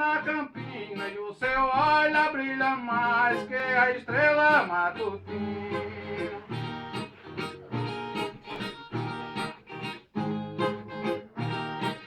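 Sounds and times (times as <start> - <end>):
steel-stringed guitar plucked and strummed: 0.0 - 12.0.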